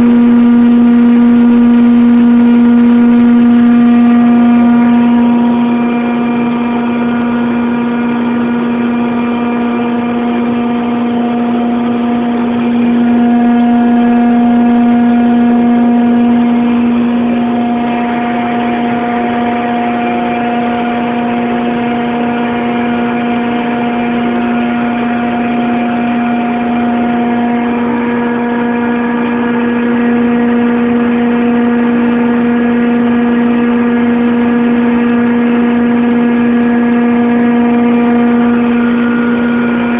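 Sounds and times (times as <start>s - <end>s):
compressor humming: 0.0s - 39.9s.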